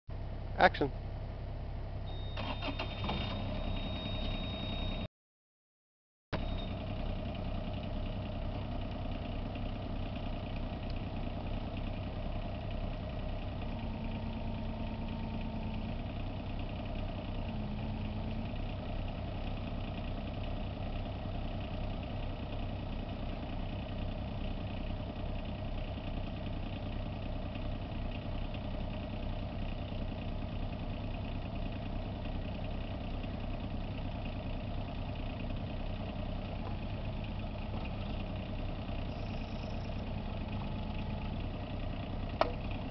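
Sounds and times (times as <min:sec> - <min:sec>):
diesel engine idling: 0:00.1 - 0:05.1, 0:06.4 - 0:42.9.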